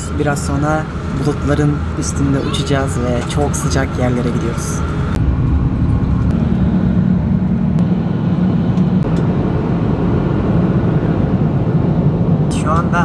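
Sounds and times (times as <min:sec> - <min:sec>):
jet airliner cabin noise: 0:00.0 - 0:13.0.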